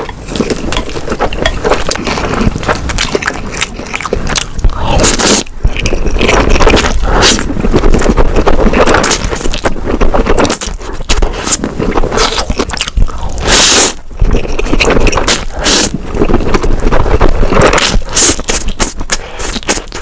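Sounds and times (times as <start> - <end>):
wet chewing and crunching: 0.0 - 20.0.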